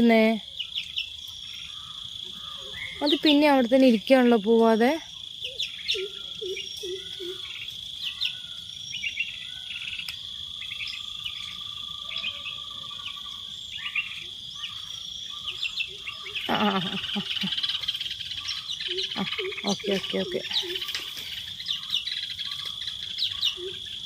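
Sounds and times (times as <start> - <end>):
insects droning: 0.0 - 24.0
small birds chirping: 0.0 - 24.0.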